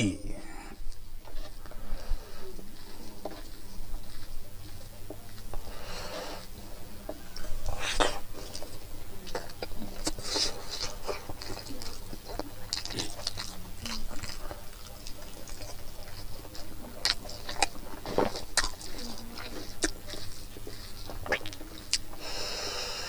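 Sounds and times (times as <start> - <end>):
chewing and mouth smacking: 0.0 - 23.0.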